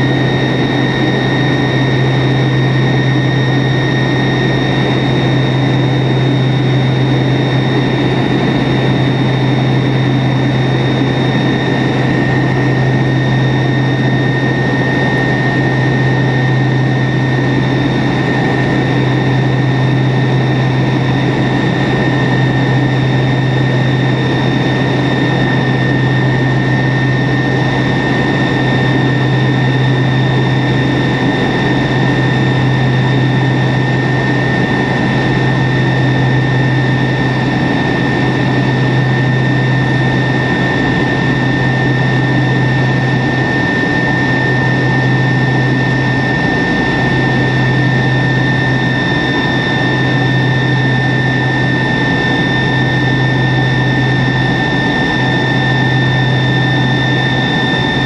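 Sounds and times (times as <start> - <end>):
aircraft cabin drone: 0.0 - 58.0
high engine whine: 0.0 - 58.0.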